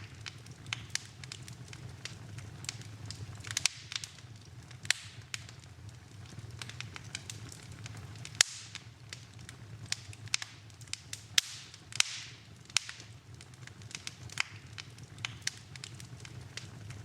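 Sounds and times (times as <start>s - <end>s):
sharp fire pops: 0.0s - 17.0s
wood fire crackling: 0.0s - 17.0s.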